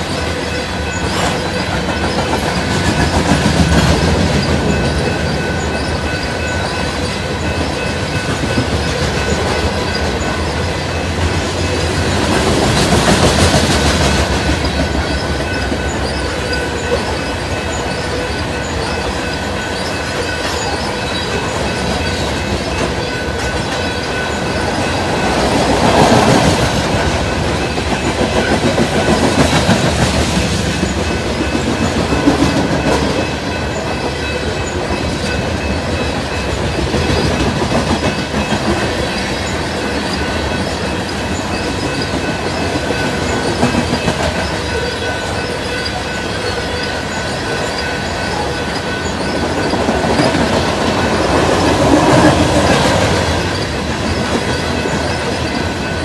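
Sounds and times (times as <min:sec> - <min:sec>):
train wheels clacking over rail joints: 0:00.0 - 0:56.0.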